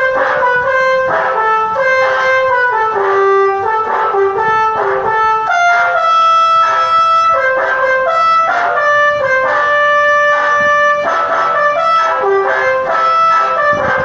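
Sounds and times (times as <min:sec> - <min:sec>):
musical air horn melody: 0:00.0 - 0:14.0.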